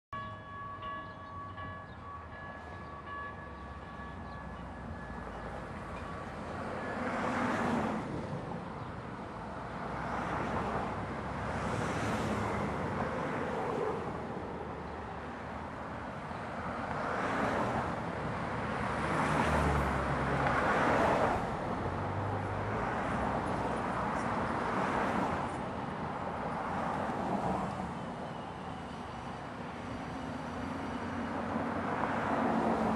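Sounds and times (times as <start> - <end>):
light-rail trains running slowly: 0.2 - 32.9.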